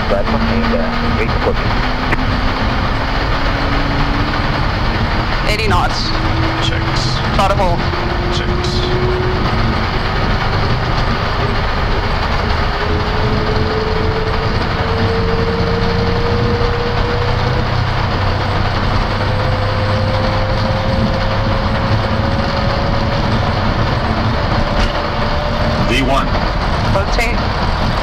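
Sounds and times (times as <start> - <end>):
jet engines roaring: 0.0 - 28.0
wheels and rushing air: 0.0 - 28.0.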